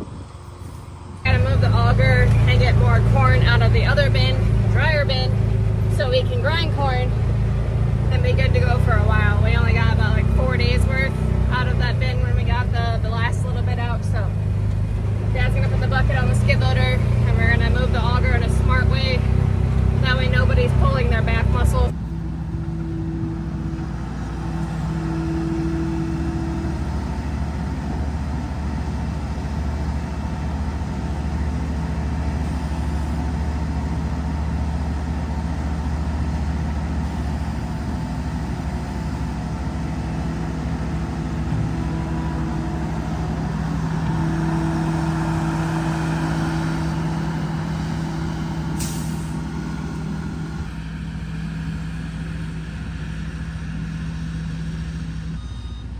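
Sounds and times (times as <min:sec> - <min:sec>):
skid loader engine running: 0:00.0 - 0:55.9.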